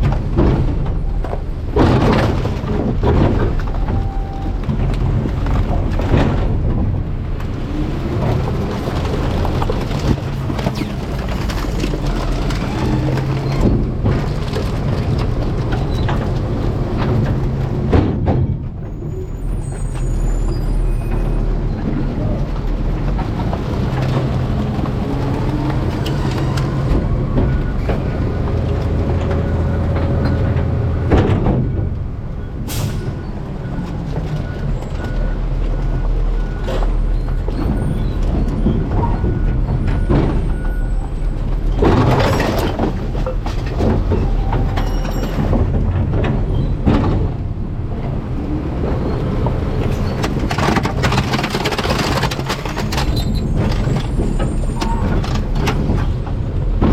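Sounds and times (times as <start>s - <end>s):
garbage truck engine droning: 0.0s - 56.9s
trash knocking and crunching: 0.0s - 56.9s.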